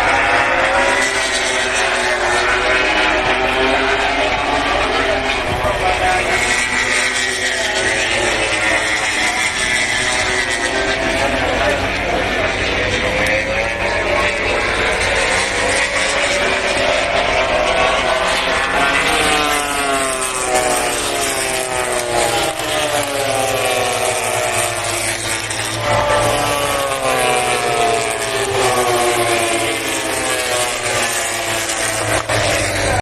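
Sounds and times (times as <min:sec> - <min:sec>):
racing motorcycles passing: 0:00.0 - 0:33.0.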